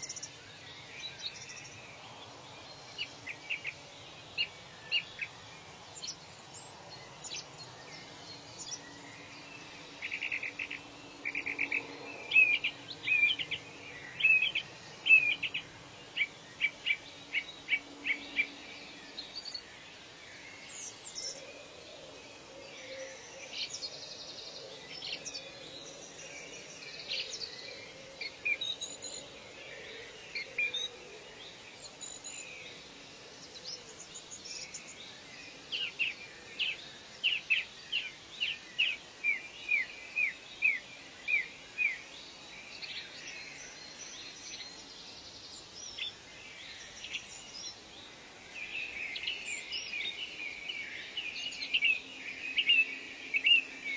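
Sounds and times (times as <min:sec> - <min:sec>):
background hiss: 0:00.0 - 0:53.9
birds singing and calling: 0:00.0 - 0:53.9.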